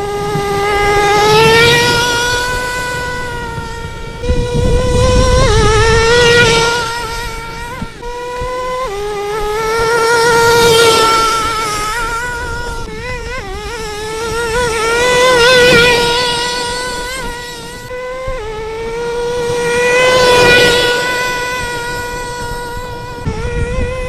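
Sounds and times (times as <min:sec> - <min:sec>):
rc truck engine buzzing: 0:00.0 - 0:24.0.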